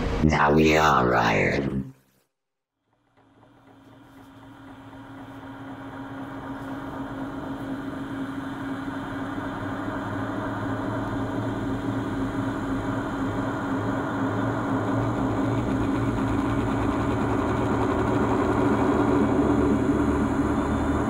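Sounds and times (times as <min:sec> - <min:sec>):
low droning hum: 0:03.1 - 0:21.0.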